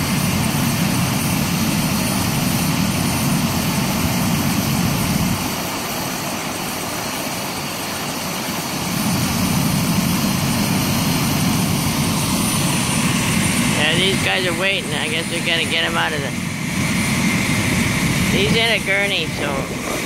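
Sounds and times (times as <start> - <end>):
helicopter idling: 0.0 - 20.0.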